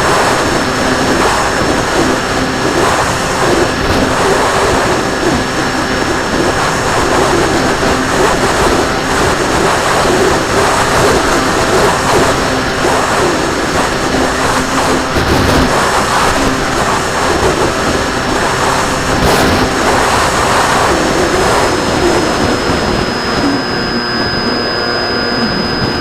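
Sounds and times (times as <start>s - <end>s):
model plane motor and propeller: 0.0s - 26.0s
thin high whine: 0.0s - 26.0s
wind rush: 0.0s - 26.0s.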